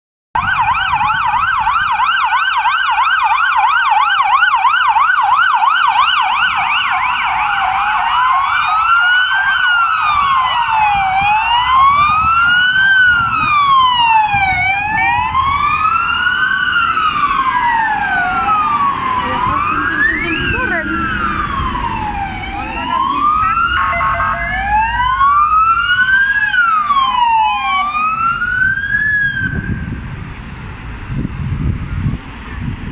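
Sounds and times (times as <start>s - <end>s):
second siren wailing: 0.4s - 30.0s
siren yelp and wail: 0.4s - 30.0s.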